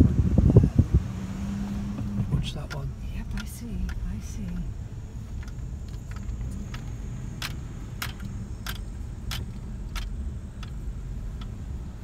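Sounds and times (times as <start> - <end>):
car engine and road noise: 0.0 - 12.0
turn signal ticking: 0.0 - 12.0.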